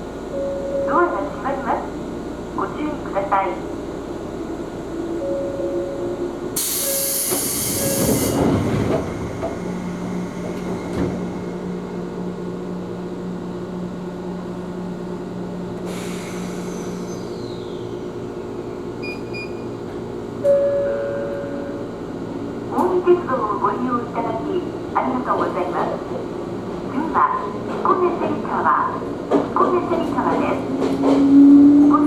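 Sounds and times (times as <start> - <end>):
train wheel and track rumble: 0.0 - 32.0.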